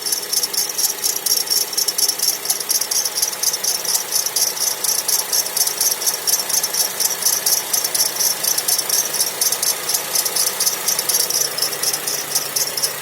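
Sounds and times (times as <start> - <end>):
pulsing high-pitched whistling hiss: 0.0 - 13.0.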